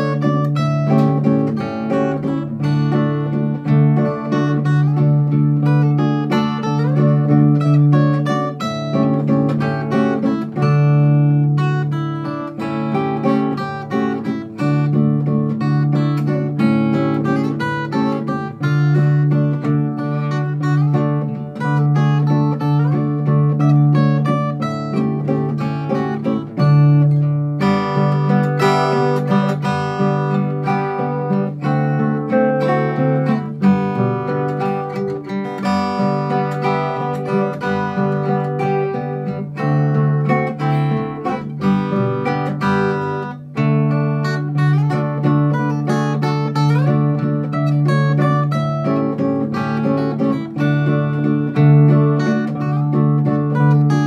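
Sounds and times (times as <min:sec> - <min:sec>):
two acoustic guitars playing a waltz: 0:00.0 - 0:54.0.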